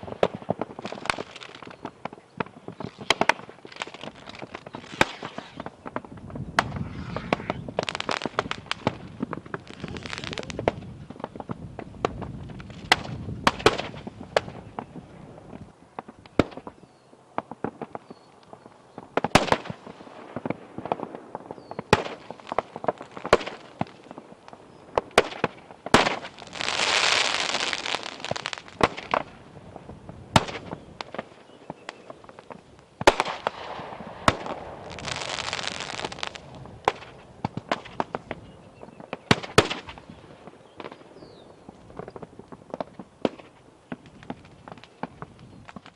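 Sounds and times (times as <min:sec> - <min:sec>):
fireworks bangs and pops: 0:00.0 - 0:45.9
fireworks crackling: 0:00.0 - 0:45.9.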